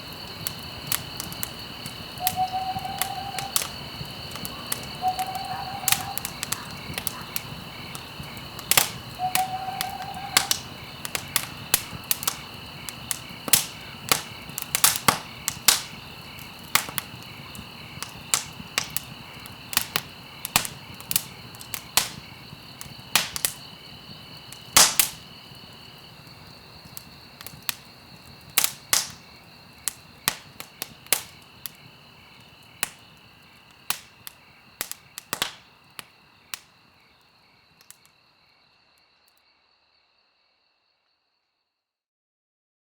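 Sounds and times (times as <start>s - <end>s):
campfire crackling and popping: 0.0s - 38.1s
crickets chirring: 0.0s - 41.7s.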